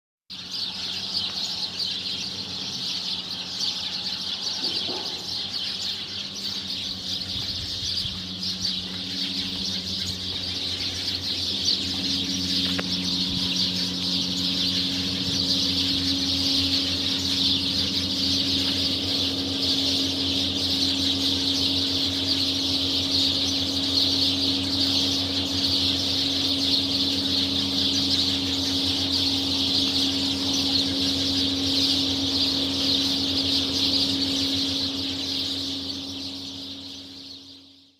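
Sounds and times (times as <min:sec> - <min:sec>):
sparrows chirping: 0:00.3 - 0:37.9
low steady hum: 0:00.4 - 0:37.9.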